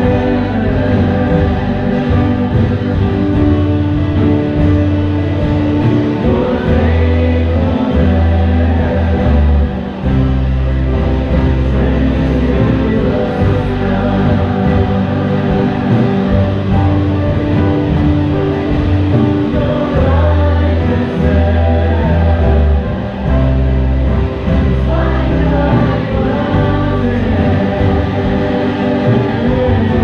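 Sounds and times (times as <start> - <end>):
instrumental backing with bass: 0.0 - 30.0
voices singing together: 0.0 - 30.0.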